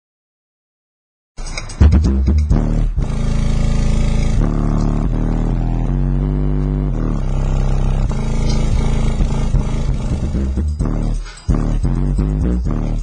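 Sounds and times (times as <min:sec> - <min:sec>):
subwoofer playing deep bass notes: 0:01.8 - 0:13.0.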